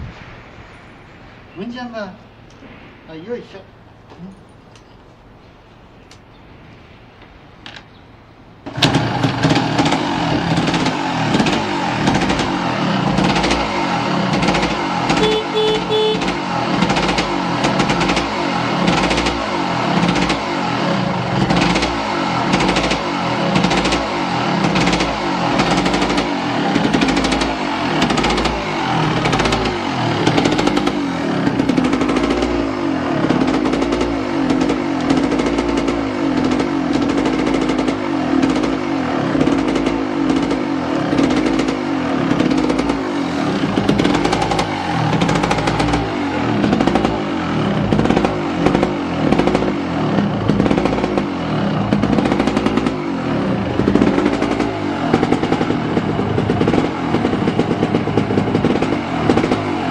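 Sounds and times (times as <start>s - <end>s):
two-stroke motorcycle engine running: 8.7s - 59.9s.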